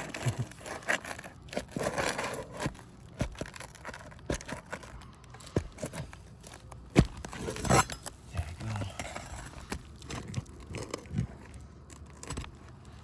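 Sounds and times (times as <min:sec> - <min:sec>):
roof shingle crumbling and tearing: 0:00.0 - 0:13.0
sharp clicks and scrapes: 0:00.0 - 0:13.0.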